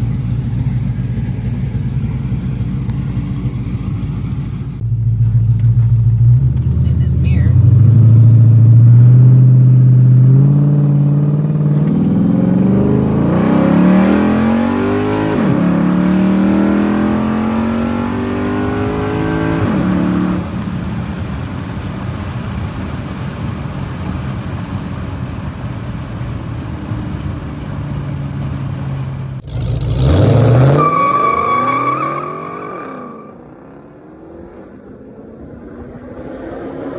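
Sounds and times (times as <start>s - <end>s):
engine revving with whine: 0.0s - 25.5s, 26.2s - 36.9s
car engine accelerating: 0.0s - 36.9s.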